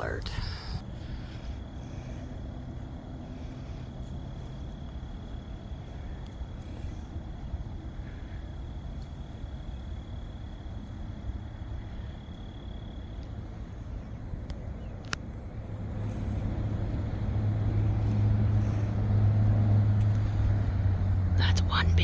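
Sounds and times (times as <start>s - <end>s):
motor vehicle engine rumble: 0.0s - 22.0s.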